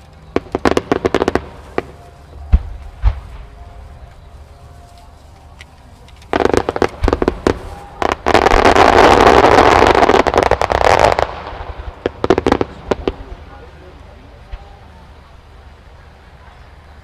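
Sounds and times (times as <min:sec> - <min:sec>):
fireworks bursting and crackling: 0:00.0 - 0:16.4.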